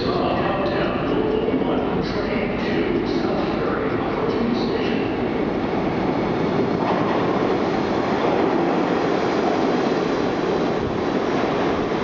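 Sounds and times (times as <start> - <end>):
subway train wheels on rails: 0.0 - 12.0.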